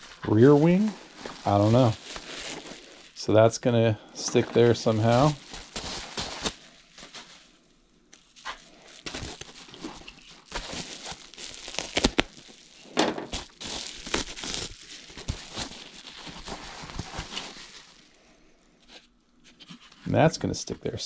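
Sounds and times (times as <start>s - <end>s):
plastic packaging crinkling: 0.0s - 18.2s.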